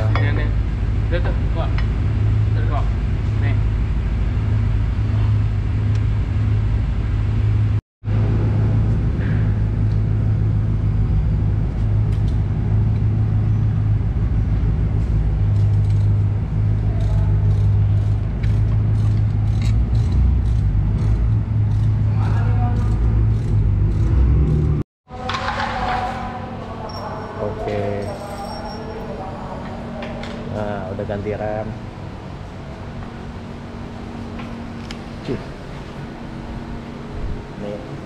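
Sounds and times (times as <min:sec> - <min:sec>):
low droning machine hum: 0:00.0 - 0:25.4, 0:26.2 - 0:38.0.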